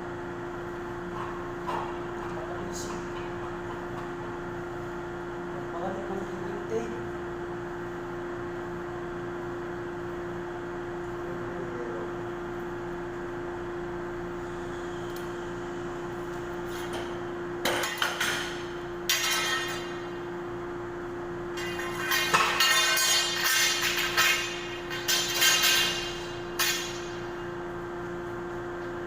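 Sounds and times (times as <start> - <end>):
steady tonal hum: 0.0 - 29.0.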